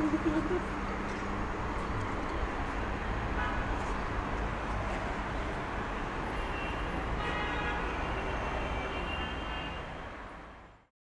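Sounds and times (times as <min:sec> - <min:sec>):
cars passing on street: 0:00.0 - 0:10.9.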